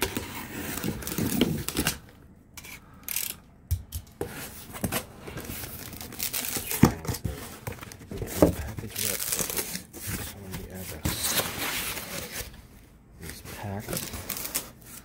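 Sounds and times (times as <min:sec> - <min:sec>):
cardboard tearing and rustling: 0:00.0 - 0:02.1, 0:04.2 - 0:12.6, 0:13.3 - 0:15.0.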